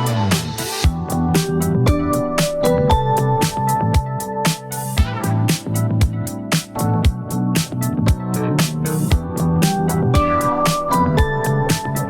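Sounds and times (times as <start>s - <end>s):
instrumental music with drum beat: 0.0s - 12.0s.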